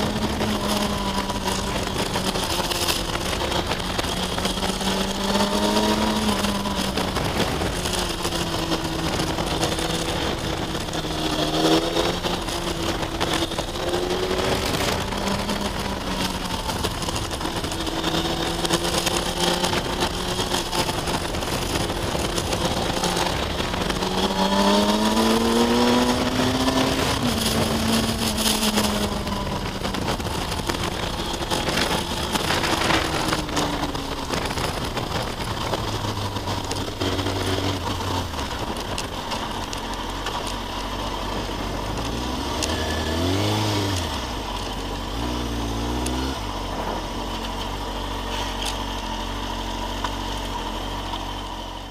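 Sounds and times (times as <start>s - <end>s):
motorcycle engine revving: 0.0s - 51.9s
wind and road noise: 0.0s - 51.9s.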